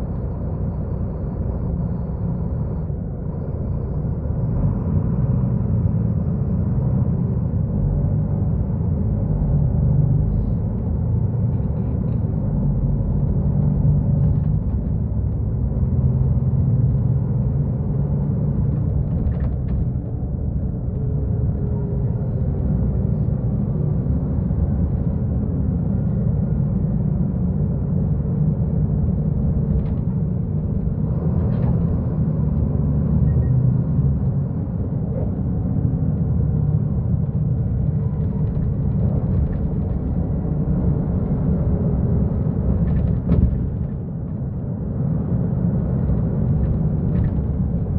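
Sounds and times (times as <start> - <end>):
bus diesel engine rumbling: 0.0 - 47.9.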